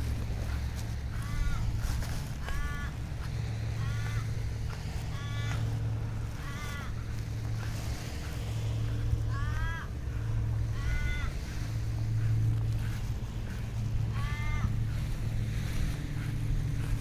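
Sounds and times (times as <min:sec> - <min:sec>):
bird harsh calls: 0:00.0 - 0:17.0
steady low rumble: 0:00.0 - 0:17.0.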